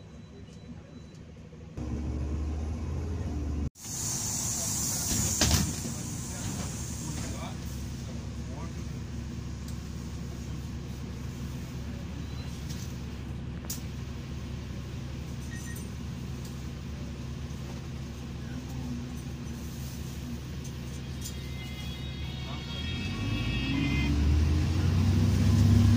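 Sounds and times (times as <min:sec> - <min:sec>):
bus engine idling: 0:00.0 - 0:25.9.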